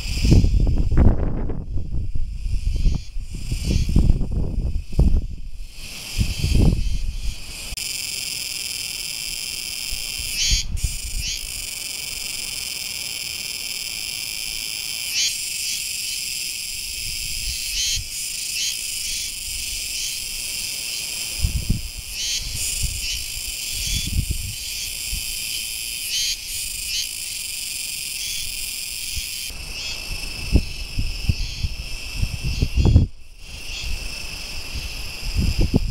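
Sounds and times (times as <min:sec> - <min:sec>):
cicadas singing: 0:00.0 - 0:35.9.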